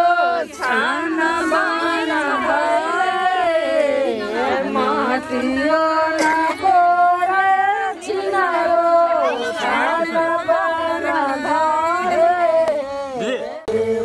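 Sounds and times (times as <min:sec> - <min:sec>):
women singing together unaccompanied: 0:00.0 - 0:14.0.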